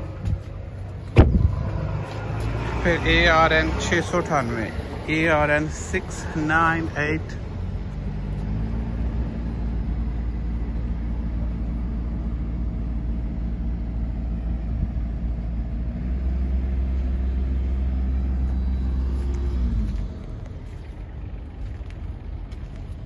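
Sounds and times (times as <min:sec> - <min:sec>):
harvester engine idling: 0:00.0 - 0:23.0.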